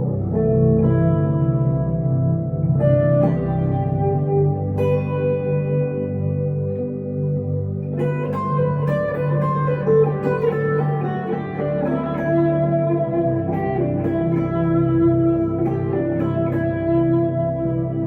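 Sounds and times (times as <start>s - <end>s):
electric guitar with delay and reverb: 0.0s - 18.0s.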